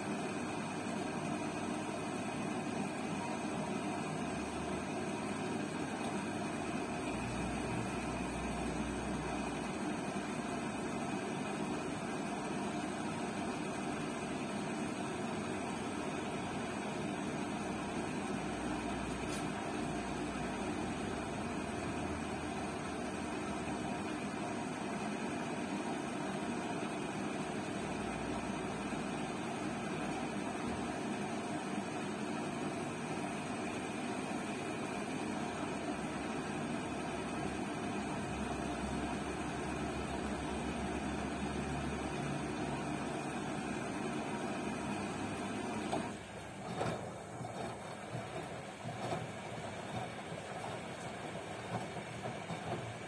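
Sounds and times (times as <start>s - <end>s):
washing machine running: 0.0s - 53.0s.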